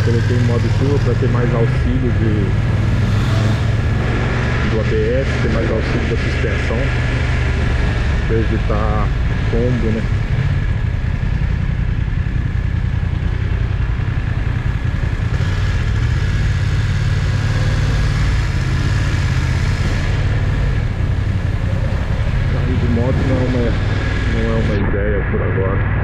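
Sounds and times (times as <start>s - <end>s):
motorcycle engine at low speed: 0.0s - 26.0s.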